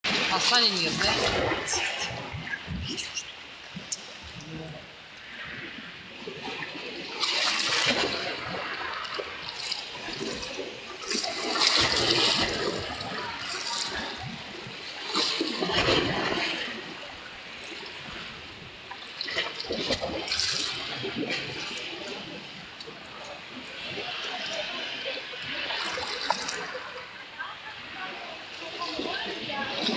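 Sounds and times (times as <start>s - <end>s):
water splashing and gushing: 0.0s - 29.9s.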